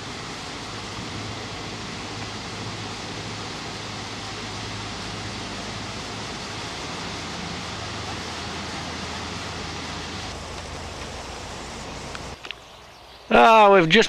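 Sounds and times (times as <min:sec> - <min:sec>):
boat engine humming: 0:00.0 - 0:12.7
wind and water rushing: 0:00.0 - 0:13.7.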